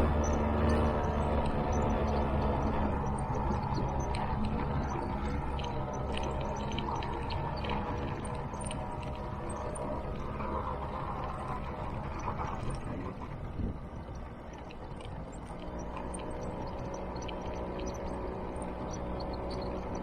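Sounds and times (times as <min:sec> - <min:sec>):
ride rumble: 0:00.0 - 0:20.0
scooter engine running: 0:00.0 - 0:20.0.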